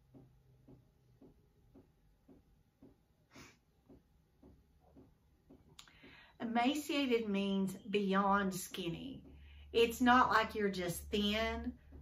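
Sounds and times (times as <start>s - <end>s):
faint soft ticking: 0.0s - 12.0s.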